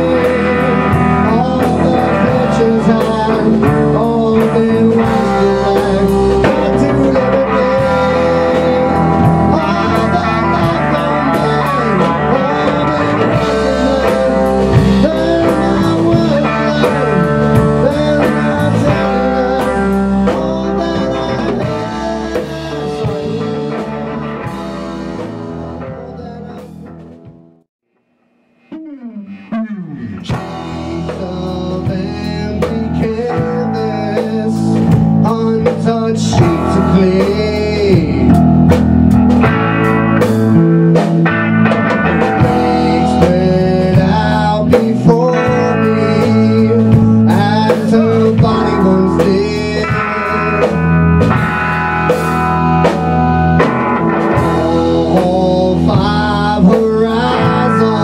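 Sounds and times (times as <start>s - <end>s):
rock band playing blues-rock: 0.0s - 27.6s, 30.2s - 58.0s.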